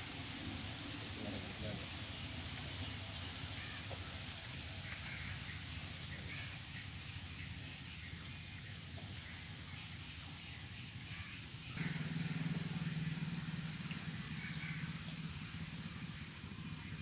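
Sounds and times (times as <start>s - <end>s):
low outdoor rumbling: 0.0s - 17.0s
steady low hum: 0.0s - 17.0s
faint bird chirps: 1.2s - 17.0s.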